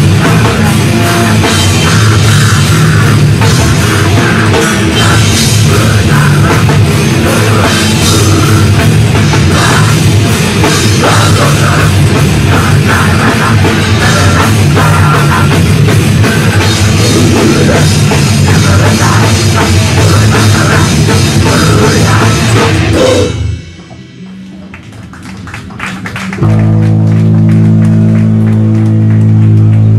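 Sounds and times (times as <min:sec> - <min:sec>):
heavy metal band playing live: 0:00.0 - 0:25.4, 0:26.1 - 0:29.9.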